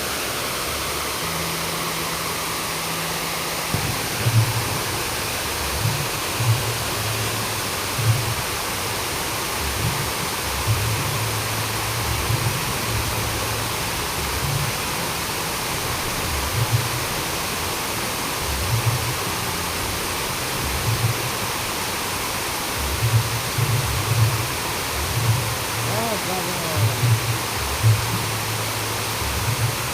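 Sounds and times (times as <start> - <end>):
rushing flowing water: 0.0 - 29.9.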